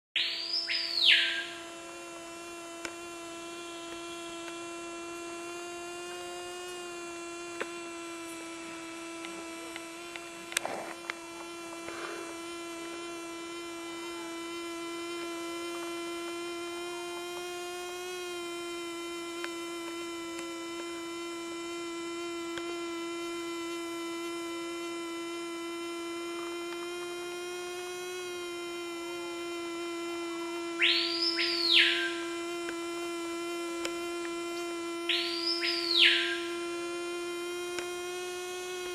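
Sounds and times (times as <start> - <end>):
fly wings buzzing: 0.2 - 38.9.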